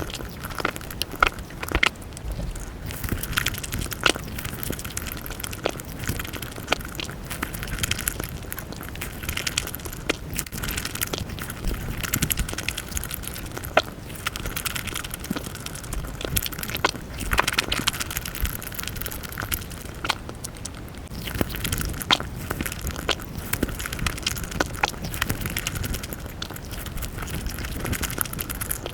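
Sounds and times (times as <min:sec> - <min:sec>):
close chewing and mouth clicks: 0:00.0 - 0:28.9.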